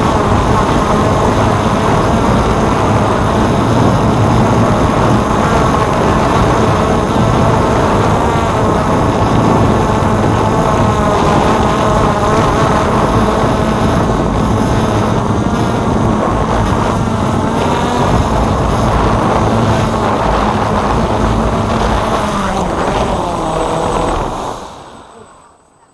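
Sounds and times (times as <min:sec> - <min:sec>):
drone propellers whirring: 0:00.0 - 0:25.9
wind noise: 0:00.0 - 0:25.9.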